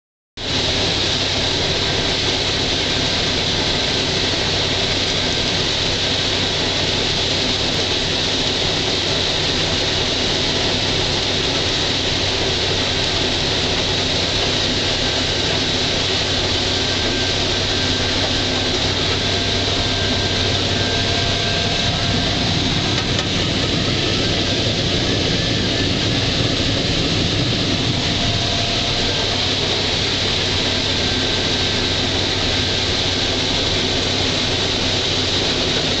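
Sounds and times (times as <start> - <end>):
combine harvester running: 0.4 - 36.0.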